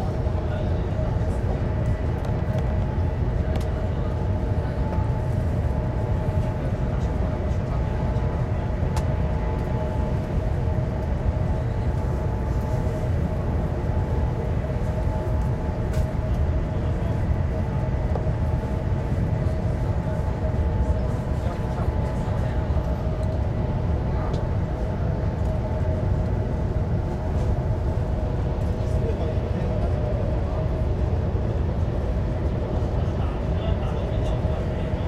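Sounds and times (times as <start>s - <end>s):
constant hum: 0.0s - 35.0s
train cabin rumble and rush: 0.0s - 35.0s.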